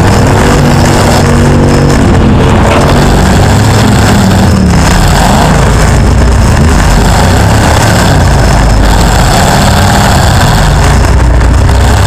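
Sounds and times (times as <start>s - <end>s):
rough engine exhaust note: 0.0s - 12.0s.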